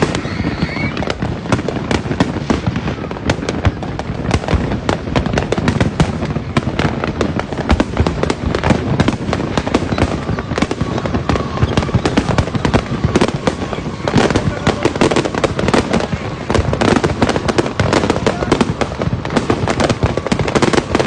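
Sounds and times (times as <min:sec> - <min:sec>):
firecrackers cracking and popping: 0:00.0 - 0:21.0.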